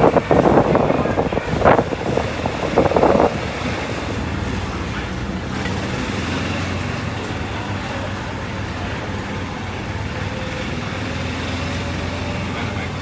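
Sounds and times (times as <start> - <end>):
low hum of street traffic: 0.0 - 13.0
wind buffeting microphone: 0.0 - 13.0.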